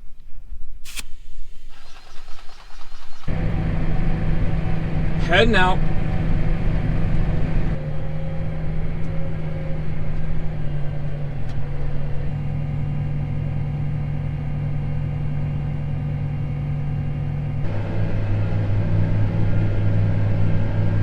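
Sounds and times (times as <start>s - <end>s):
tractor diesel engine running: 0.9s - 21.0s.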